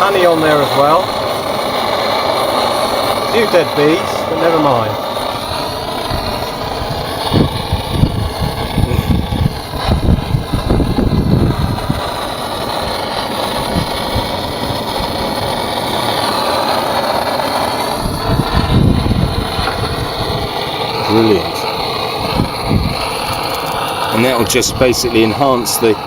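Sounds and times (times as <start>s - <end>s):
gas blowtorch flame burning: 0.0s - 26.0s
low rumbling: 0.0s - 26.0s.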